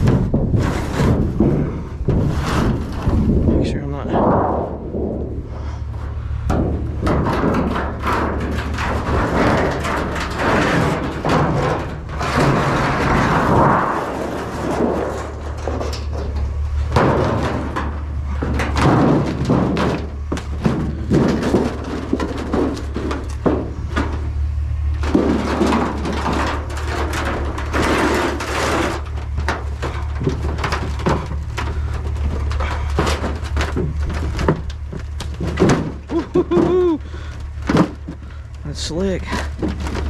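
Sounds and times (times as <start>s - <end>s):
scrap metal clattering in dumpster: 0.0s - 40.0s.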